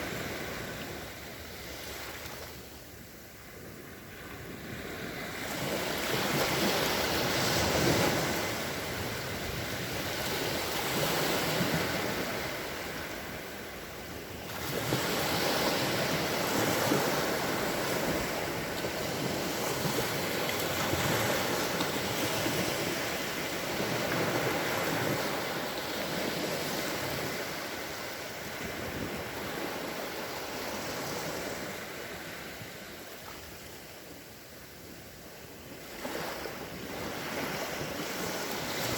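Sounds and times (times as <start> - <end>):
sea waves washing onto shore: 0.0 - 34.4.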